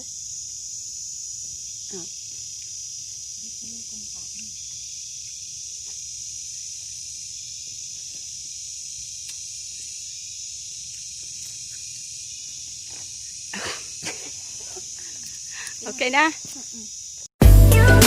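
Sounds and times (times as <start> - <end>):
insects shrilling: 0.0 - 17.3.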